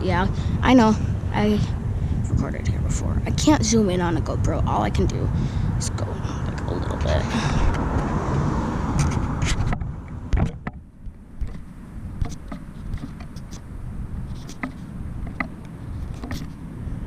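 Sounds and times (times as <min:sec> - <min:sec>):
low traffic: 0:00.0 - 0:17.0
wind rumble: 0:00.0 - 0:17.0.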